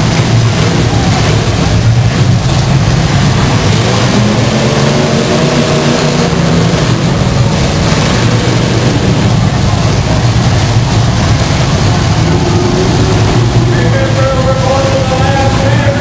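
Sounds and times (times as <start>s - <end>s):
car engines roaring: 0.0s - 16.0s
engine revving: 0.0s - 16.0s.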